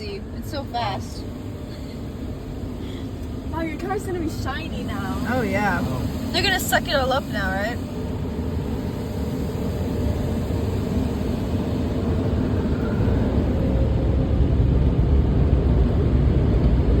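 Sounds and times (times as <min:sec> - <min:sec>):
car wash air blowers rushing: 0:00.0 - 0:17.0.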